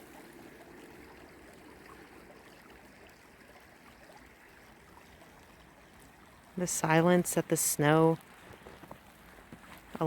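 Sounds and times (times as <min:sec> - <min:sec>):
trickle of water running: 0:00.0 - 0:10.0.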